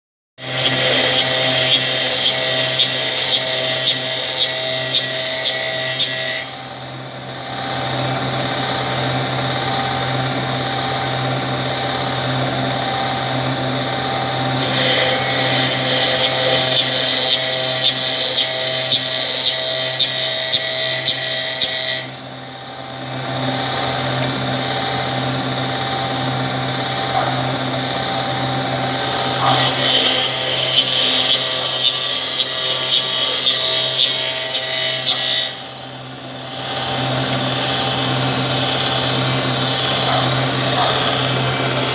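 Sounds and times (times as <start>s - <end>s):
drill press high whine: 0.4s - 41.9s
drill press motor hum: 0.4s - 41.9s.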